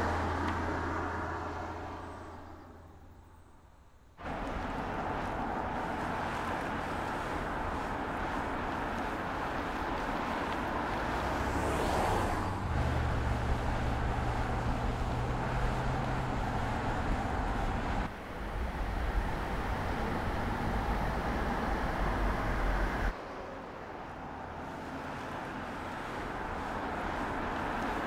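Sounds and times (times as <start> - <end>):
car driving at speed: 0.0 - 3.5, 4.2 - 28.0.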